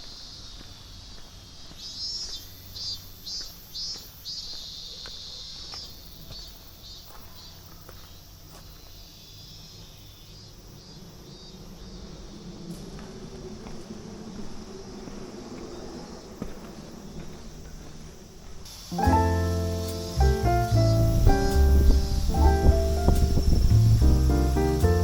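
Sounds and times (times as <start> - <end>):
faint footsteps on path: 0.0 - 9.5, 10.9 - 25.0
insects buzzing trill: 0.0 - 25.0.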